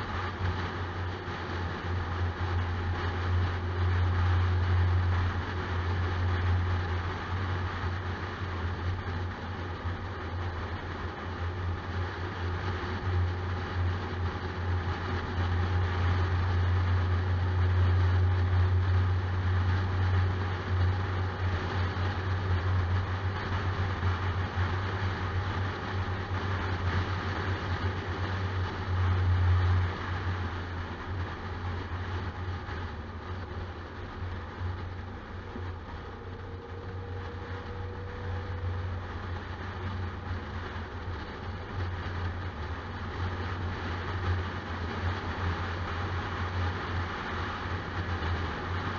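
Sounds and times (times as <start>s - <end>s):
car engine and tyre drone: 0.0s - 48.9s.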